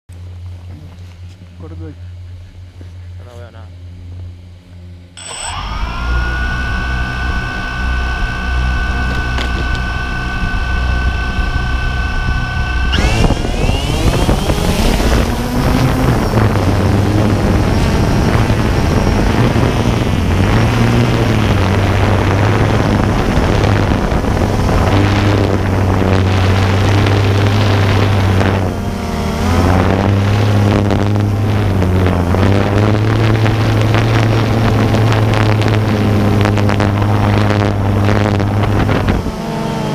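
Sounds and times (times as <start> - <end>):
quadcopter motors whining: 5.2 - 39.9.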